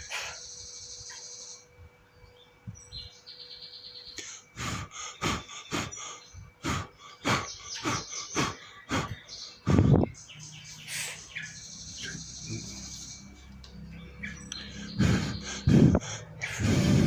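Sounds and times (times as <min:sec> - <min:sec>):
bird chicks calling: 0:00.0 - 0:17.0.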